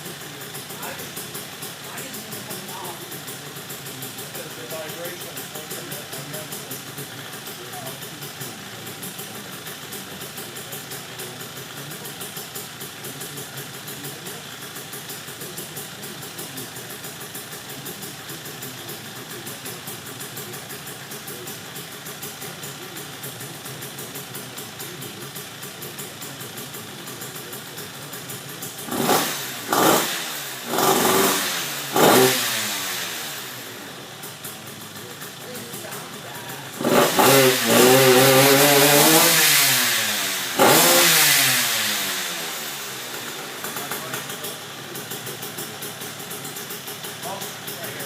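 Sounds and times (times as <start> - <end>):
two-stroke quad engine revving: 0.0 - 48.0.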